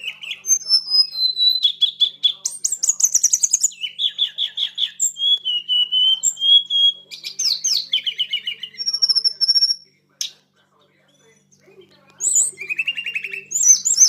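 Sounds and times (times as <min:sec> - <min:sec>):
bird singing rapid varied song: 0:00.0 - 0:10.4, 0:11.1 - 0:14.0.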